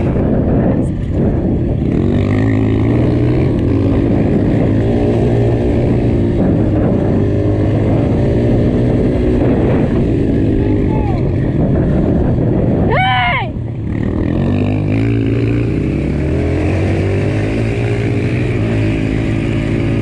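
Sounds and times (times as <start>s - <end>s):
dirt bike engine revving: 1.2s - 12.7s, 13.8s - 20.0s.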